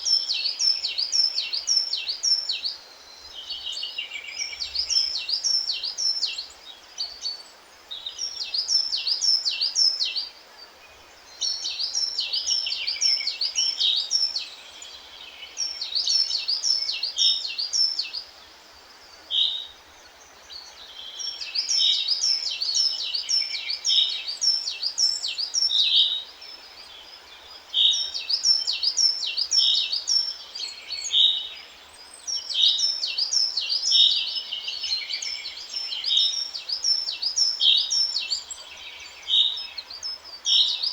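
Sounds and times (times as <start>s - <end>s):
faint steady hiss: 0.0s - 40.9s
songbirds chirping: 0.0s - 40.9s.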